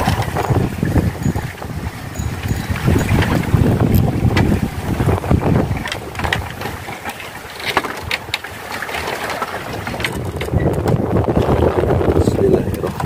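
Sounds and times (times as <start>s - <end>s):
open sea ambience: 0.0s - 13.0s
wind buffeting microphone: 0.0s - 13.0s.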